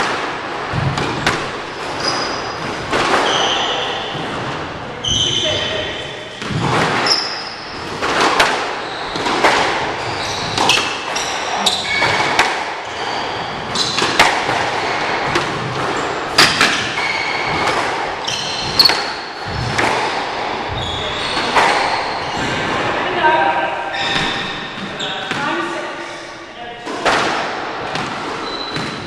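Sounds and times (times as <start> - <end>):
squash ball smacking rackets and walls: 0.0 - 25.8, 26.8 - 29.0
sneakers squeaking on hardwood: 0.7 - 25.7, 27.8 - 29.0.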